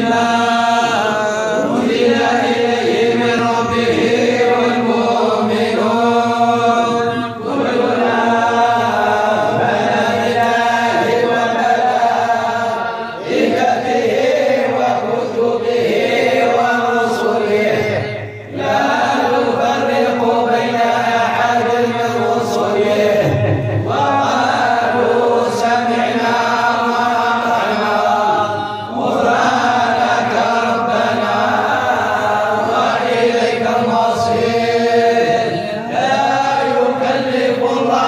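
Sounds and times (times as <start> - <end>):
men chanting devotional verses: 0.0 - 38.0.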